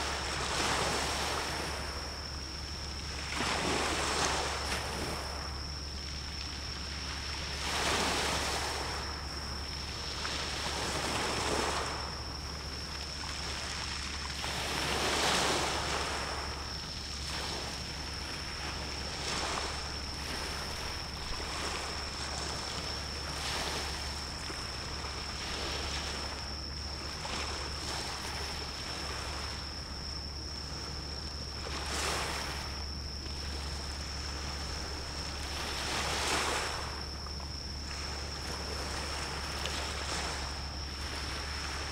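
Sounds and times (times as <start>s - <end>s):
low hum: 0.0s - 41.9s
sea waves washing in: 0.0s - 41.9s.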